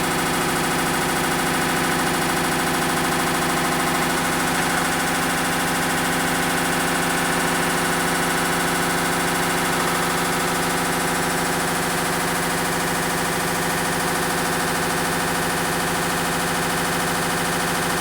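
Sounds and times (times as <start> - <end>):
washing machine spinning and rattling: 0.0 - 18.0.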